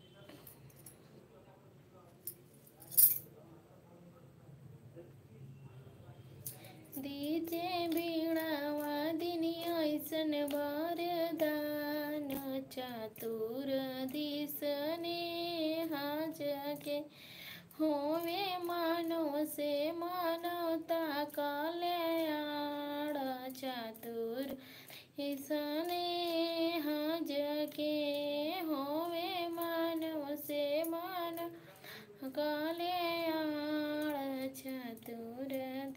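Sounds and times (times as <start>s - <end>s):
woman singing unaccompanied: 6.5s - 35.9s.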